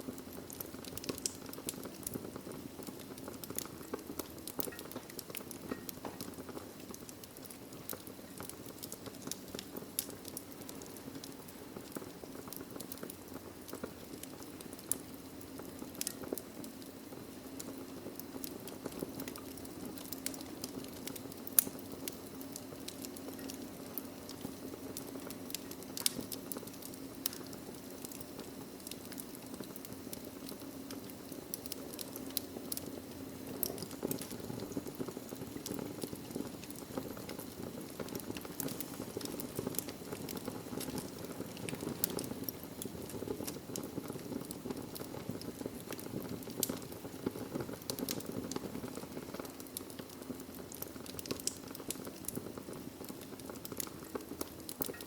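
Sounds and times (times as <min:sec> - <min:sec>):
wood fire burning in fireplace: 0:00.0 - 0:55.0.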